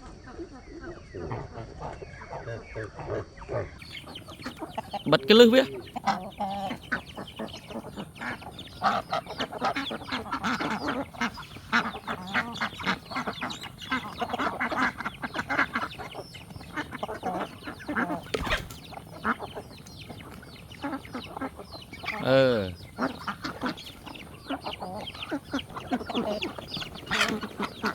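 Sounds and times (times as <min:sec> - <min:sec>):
ducks quacking and honking: 0:00.1 - 0:27.9.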